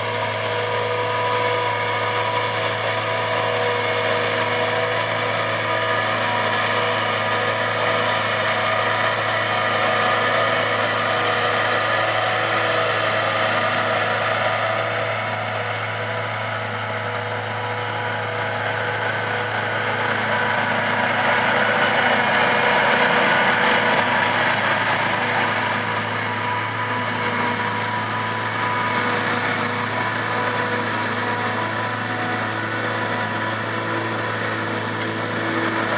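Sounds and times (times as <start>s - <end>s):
forage harvester engine droning: 0.0s - 35.9s.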